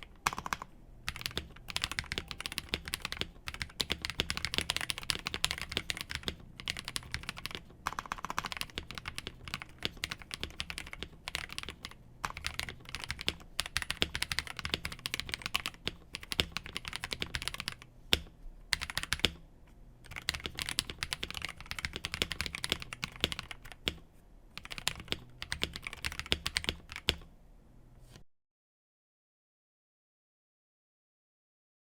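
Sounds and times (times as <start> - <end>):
mechanical keyboard typing: 0.0 - 19.4, 20.0 - 24.0, 24.6 - 27.3.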